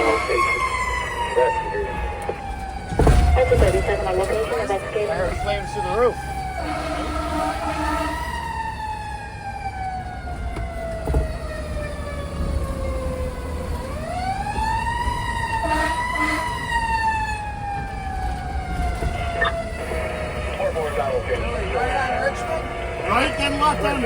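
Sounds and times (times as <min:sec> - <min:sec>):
fire truck siren wailing: 0:00.0 - 0:24.0.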